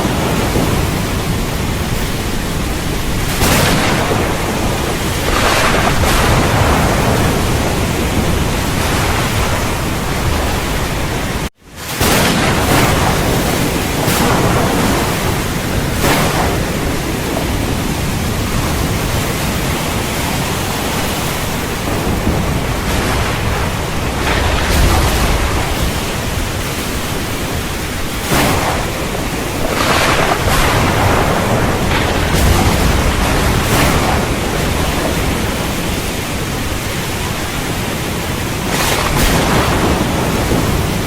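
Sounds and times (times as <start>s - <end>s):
low rumble of thunder: 0.0s - 37.8s, 38.4s - 41.0s
heavy rain: 0.0s - 41.0s.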